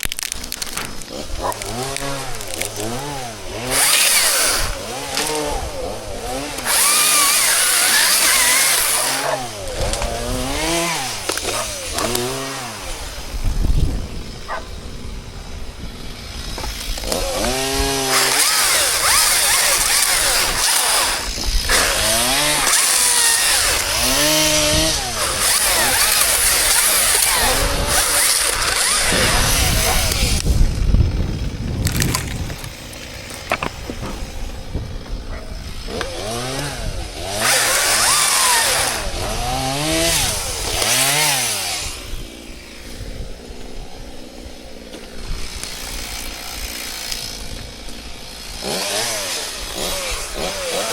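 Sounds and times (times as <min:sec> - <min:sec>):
chainsaw revving and cutting wood: 0:00.0 - 0:50.9.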